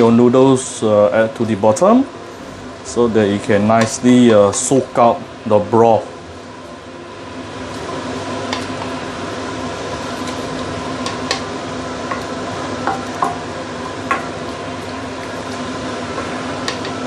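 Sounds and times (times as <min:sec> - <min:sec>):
broth bubbling and sizzling: 0:01.2 - 0:17.0.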